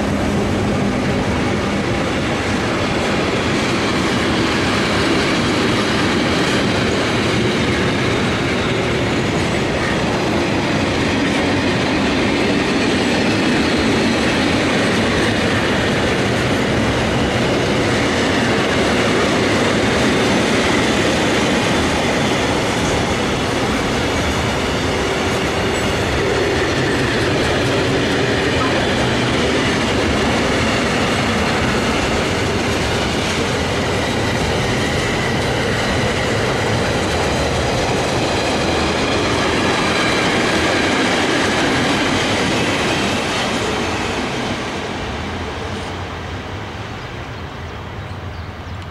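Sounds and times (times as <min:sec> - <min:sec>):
freight wagons rumbling on rails: 0:00.0 - 0:48.9.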